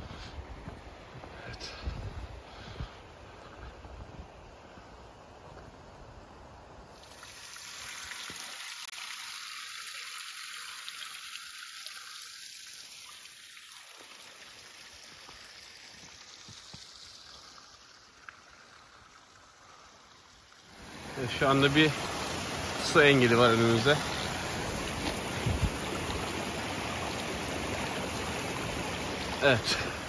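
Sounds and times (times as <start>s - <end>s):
stream flowing: 2.4s - 30.0s.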